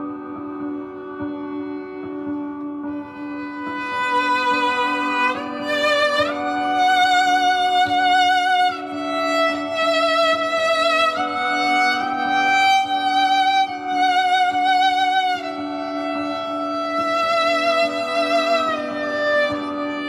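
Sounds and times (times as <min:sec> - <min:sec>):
viola slow melody: 0:00.0 - 0:20.0.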